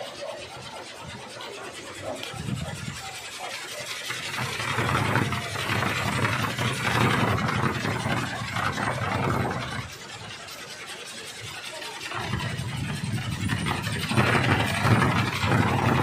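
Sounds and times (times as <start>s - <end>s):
wooden wind propeller droning: 0.0s - 16.0s.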